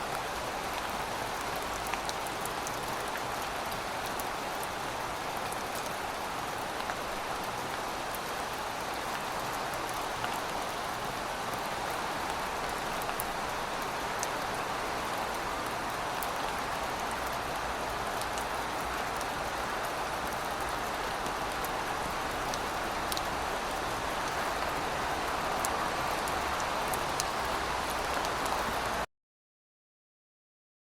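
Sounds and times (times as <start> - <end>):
steady rain hiss: 0.0 - 29.1.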